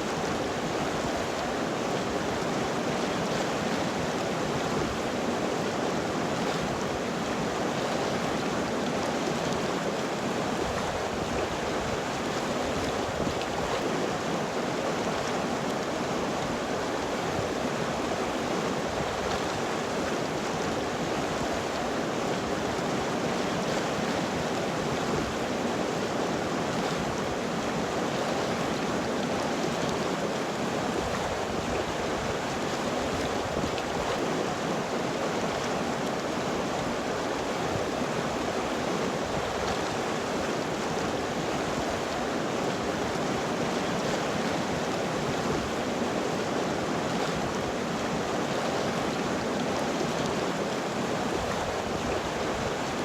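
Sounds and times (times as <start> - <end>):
river water flowing over rocks: 0.0 - 53.0.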